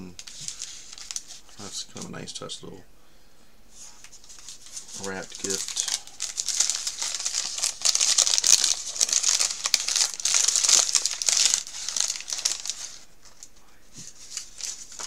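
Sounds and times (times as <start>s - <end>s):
gift wrapper crinkling: 0.0s - 2.1s, 4.0s - 15.0s.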